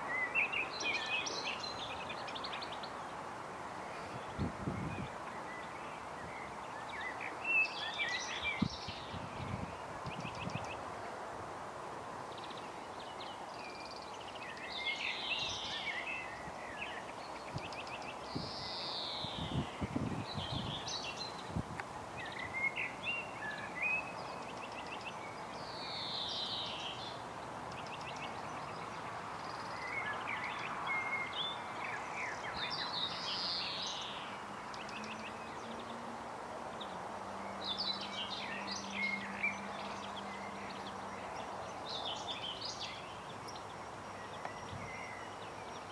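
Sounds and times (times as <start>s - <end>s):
songbirds singing: 0.0s - 11.4s, 12.0s - 45.9s
outdoor background hiss: 0.0s - 45.9s.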